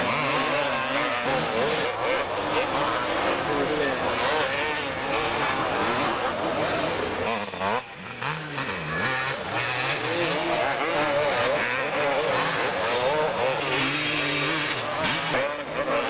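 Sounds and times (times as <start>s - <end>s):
motocross motorcycles revving: 0.0s - 16.0s
motorcycle passing close: 0.0s - 16.0s.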